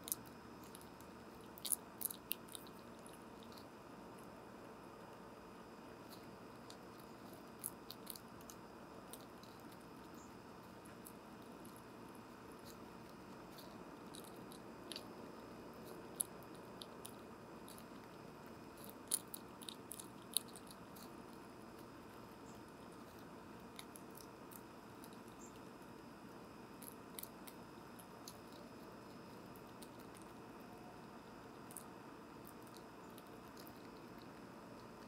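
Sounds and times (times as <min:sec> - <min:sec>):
squirrel cracking seeds: 0:00.0 - 0:35.0.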